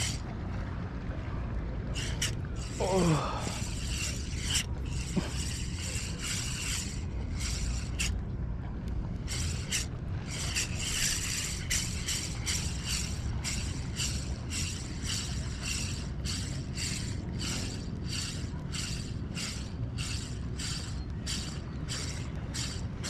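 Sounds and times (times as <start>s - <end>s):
fishing reel whirring: 0.0s - 0.2s, 1.9s - 8.2s, 9.1s - 23.0s
low steady rumble: 0.0s - 23.0s.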